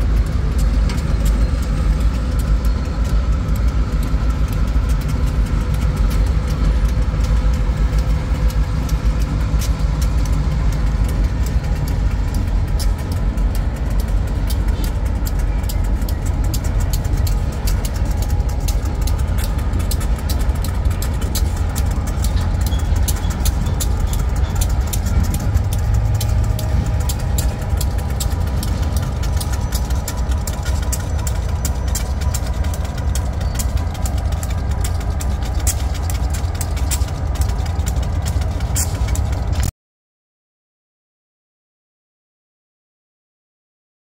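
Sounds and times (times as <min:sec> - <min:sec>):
locomotive engine rumble: 0:00.0 - 0:39.7.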